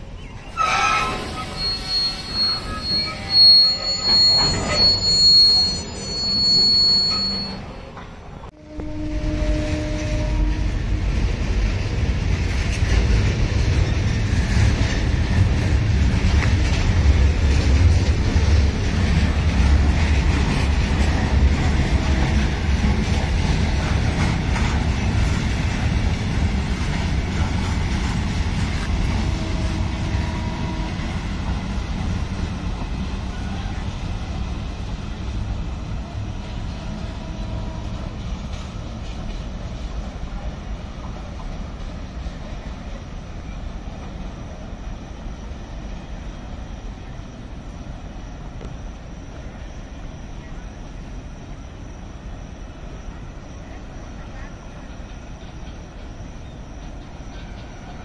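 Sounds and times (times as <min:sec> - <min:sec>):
train wheels squealing: 0:00.0 - 0:10.7, 0:13.6 - 0:58.0
wagons rumbling over rails: 0:00.0 - 0:58.0.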